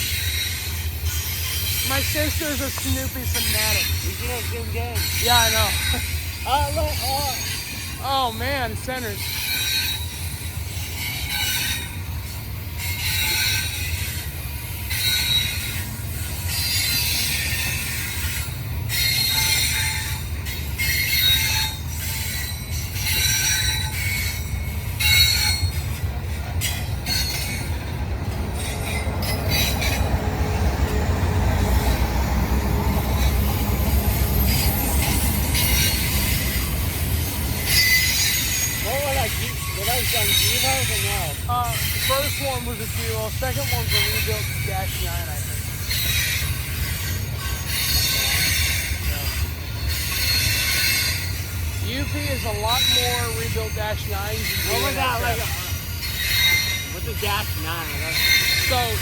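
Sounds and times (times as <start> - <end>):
wheel squeal: 0.0 - 8.2, 9.0 - 30.7, 32.9 - 59.0
train wheels rumbling on rail: 0.0 - 59.0.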